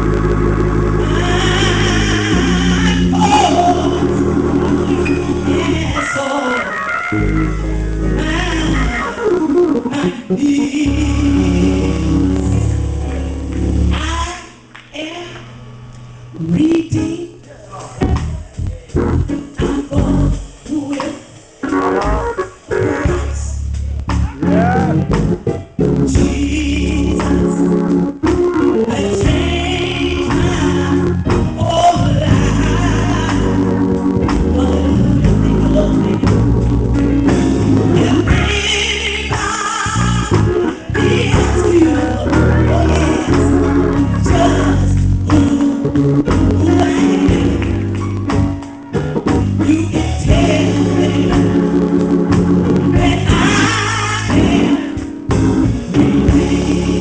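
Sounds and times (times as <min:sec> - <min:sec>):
gospel singing with band: 0:00.0 - 0:14.5, 0:16.4 - 0:57.0.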